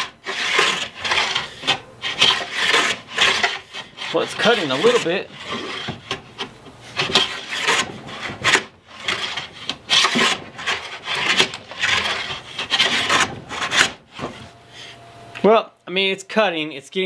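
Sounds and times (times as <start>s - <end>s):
hand plane scraping wood: 0.0s - 14.5s.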